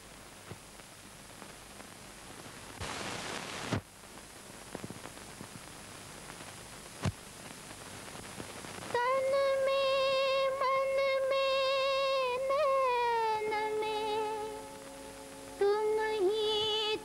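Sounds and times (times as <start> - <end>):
film soundtrack hiss and crackle: 0.0 - 17.0.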